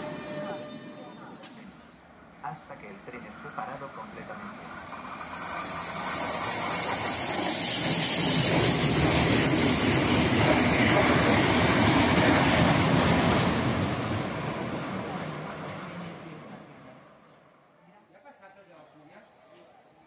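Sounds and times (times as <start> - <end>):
passenger train passing: 0.0 - 17.8.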